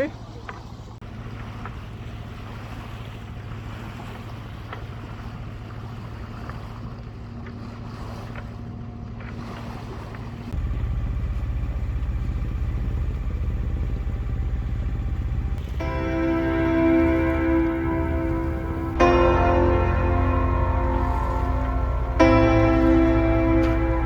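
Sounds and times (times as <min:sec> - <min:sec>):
water noise: 0:00.0 - 0:24.0
wind: 0:00.0 - 0:24.0
boat engine running: 0:00.2 - 0:24.0.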